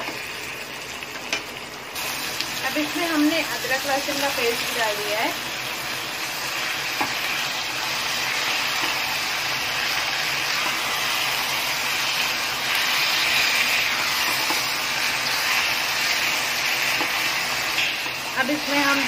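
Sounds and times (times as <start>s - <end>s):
meat and onions sizzling in oil: 0.0s - 19.0s.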